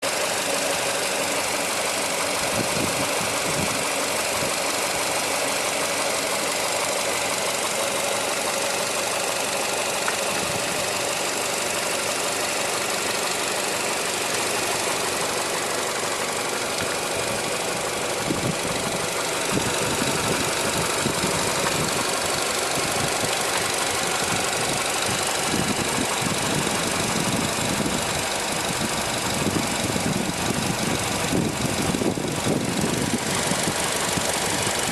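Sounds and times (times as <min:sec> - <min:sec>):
car engine running: 0:00.0 - 0:34.9
engine noise: 0:00.0 - 0:34.9.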